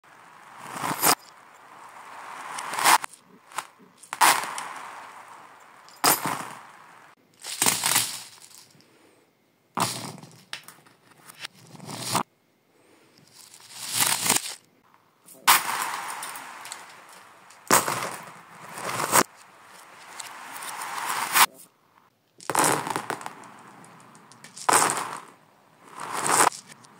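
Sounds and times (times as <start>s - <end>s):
reversed beads clattering on floor: 0.3s - 8.8s, 9.8s - 12.2s, 13.2s - 14.6s, 15.3s - 21.6s, 22.4s - 26.9s.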